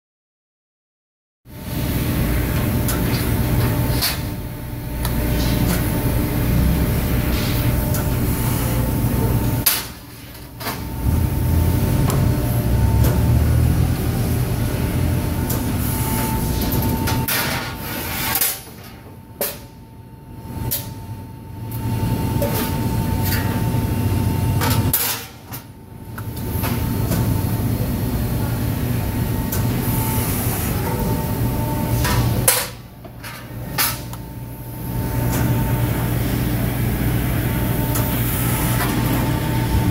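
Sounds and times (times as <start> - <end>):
machine drone with whine: 1.5 - 39.9.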